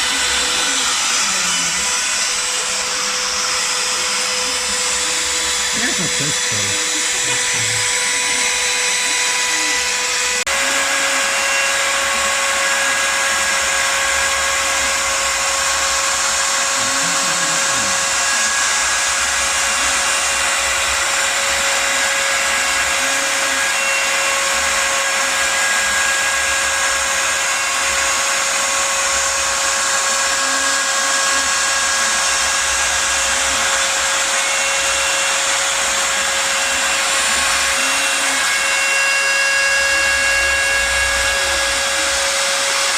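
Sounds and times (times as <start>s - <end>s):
router spindle whining: 0.0s - 42.9s.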